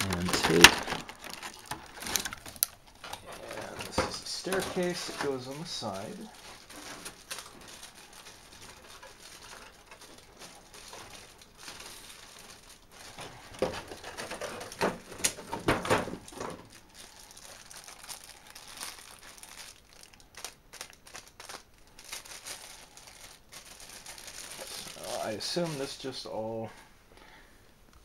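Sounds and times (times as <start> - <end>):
crinkly packaging crackling: 0.0 - 26.6.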